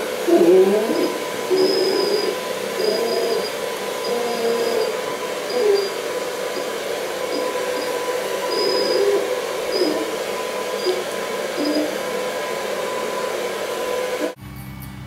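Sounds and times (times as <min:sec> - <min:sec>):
hair dryer blowing: 0:00.0 - 0:14.4.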